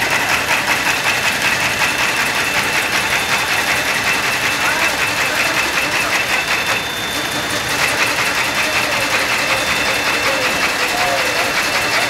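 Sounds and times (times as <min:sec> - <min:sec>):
factory machinery clattering: 0:00.0 - 0:12.0.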